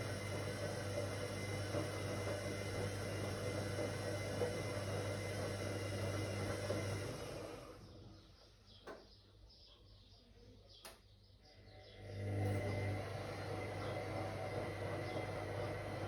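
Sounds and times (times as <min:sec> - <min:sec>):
washing machine motor humming: 0:00.0 - 0:09.0, 0:11.7 - 0:16.0.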